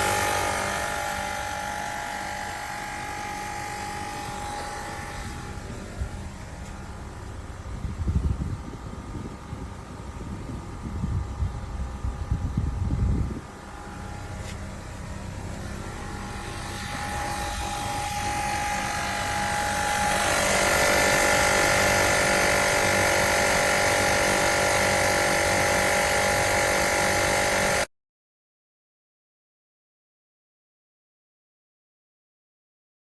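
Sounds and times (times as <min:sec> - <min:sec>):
small electric compressor running: 0:00.0 - 0:27.9.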